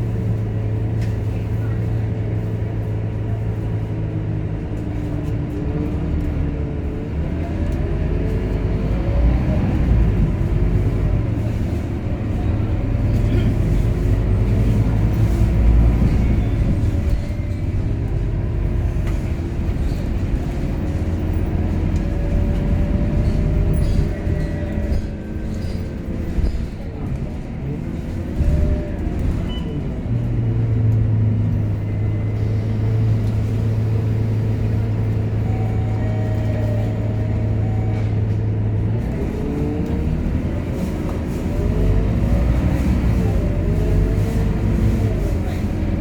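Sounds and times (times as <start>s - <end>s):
bus diesel engine droning: 0.0s - 46.0s.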